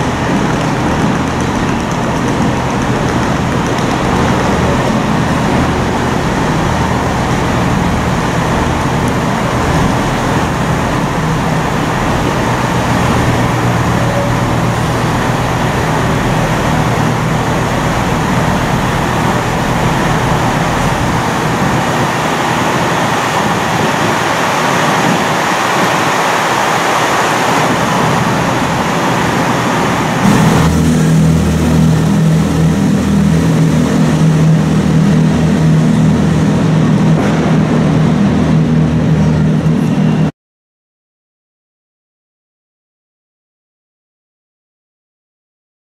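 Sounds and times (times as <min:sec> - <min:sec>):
diesel train engines humming: 0:00.0 - 0:40.3.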